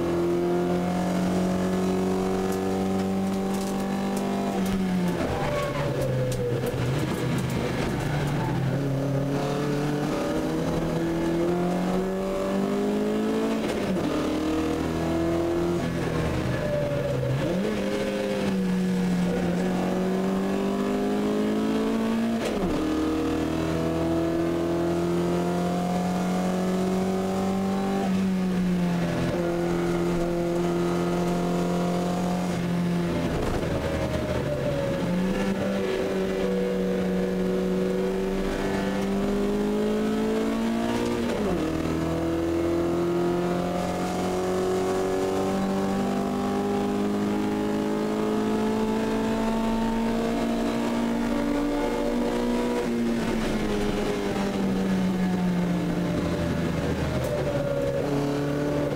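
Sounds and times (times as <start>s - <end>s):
race car engine accelerating: 0.0s - 58.9s.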